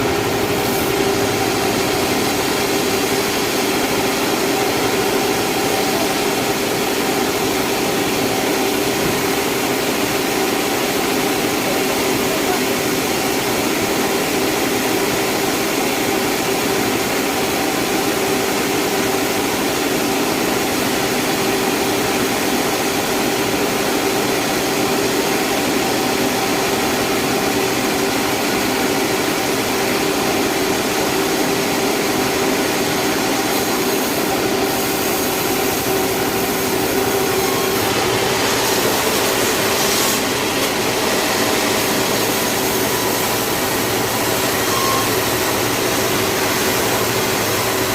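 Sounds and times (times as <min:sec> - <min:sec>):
sawmill machinery humming: 0:00.0 - 0:47.9.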